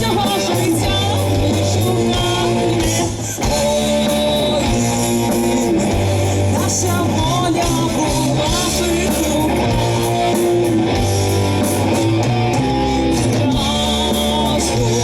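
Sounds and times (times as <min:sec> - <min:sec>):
bass guitar: 0:00.0 - 0:15.0
electric guitar: 0:00.0 - 0:15.0
live rock band playing: 0:00.0 - 0:15.0.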